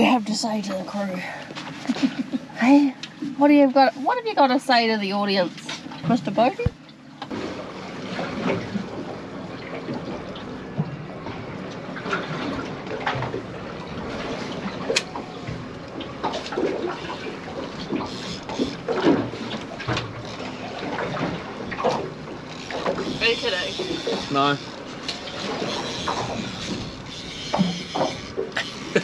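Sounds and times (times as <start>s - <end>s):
water lapping against boat hull: 0.0s - 29.0s.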